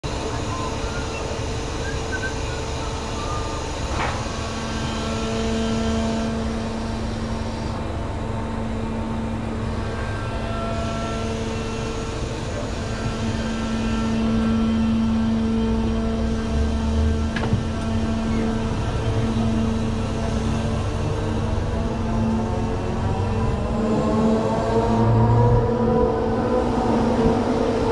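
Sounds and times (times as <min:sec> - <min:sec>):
fairground ride machinery humming: 0:00.0 - 0:27.9.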